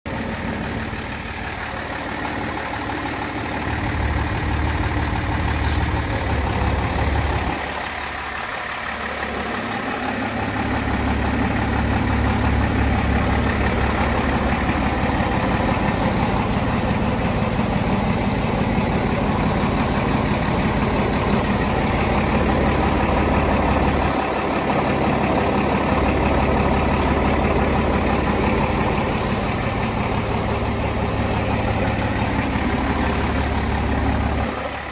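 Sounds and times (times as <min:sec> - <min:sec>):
tractor engine idling: 0:00.1 - 0:34.9.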